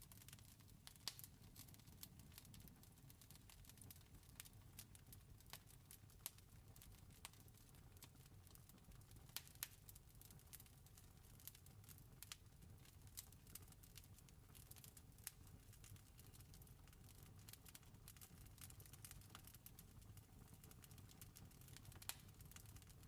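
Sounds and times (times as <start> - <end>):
campfire crackling: 0.1 - 23.0.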